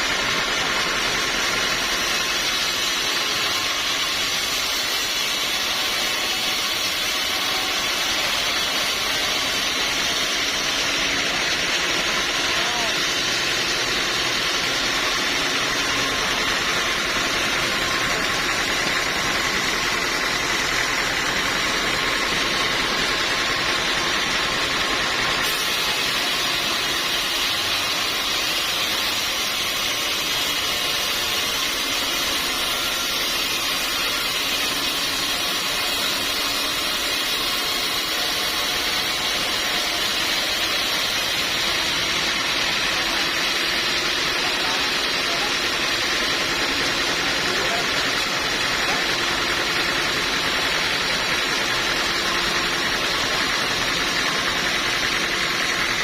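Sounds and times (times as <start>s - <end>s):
sawmill machinery hissing: 0.0s - 56.0s.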